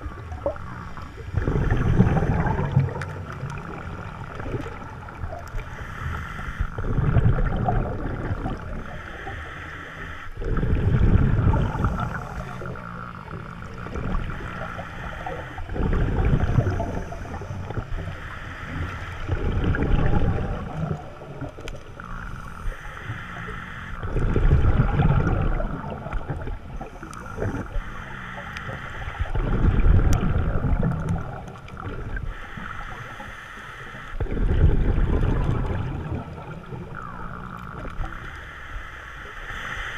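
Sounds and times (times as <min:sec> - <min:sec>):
faint regulator hiss: 0:00.0 - 0:10.5, 0:11.2 - 0:24.2, 0:25.3 - 0:34.3, 0:35.6 - 0:39.9.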